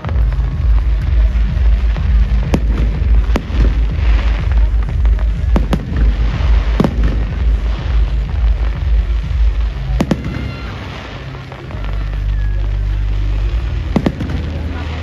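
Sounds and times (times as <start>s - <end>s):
fireworks bangs: 0.0s - 15.0s
fireworks crackling: 0.0s - 15.0s
low rumble: 0.0s - 15.0s.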